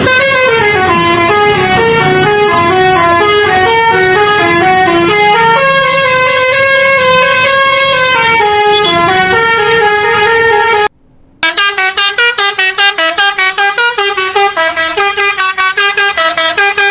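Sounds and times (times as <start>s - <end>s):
bus horn playing melody: 0.0s - 16.9s.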